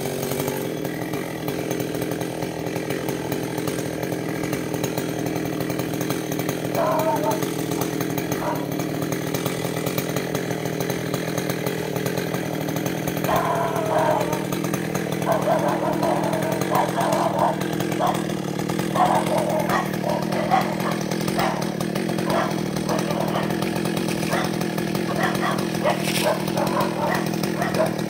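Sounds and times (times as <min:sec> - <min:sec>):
chainsaw idling: 0:00.0 - 0:28.0.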